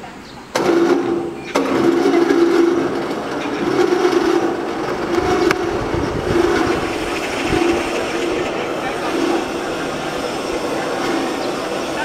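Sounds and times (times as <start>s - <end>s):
crane electric drive humming: 0.0s - 12.0s.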